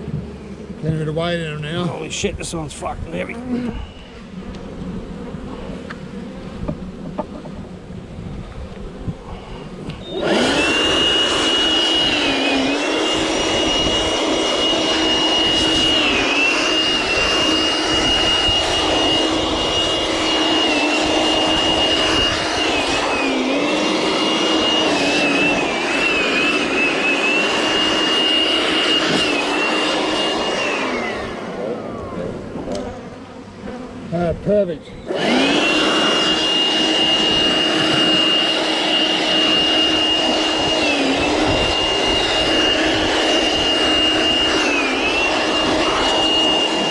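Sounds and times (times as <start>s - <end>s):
small electric motor whining: 0.0s - 46.9s.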